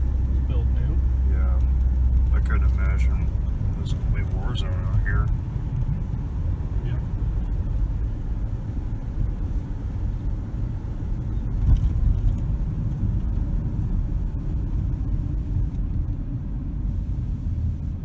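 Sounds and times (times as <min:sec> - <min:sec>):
car interior road and engine rumble: 0:00.0 - 0:18.0.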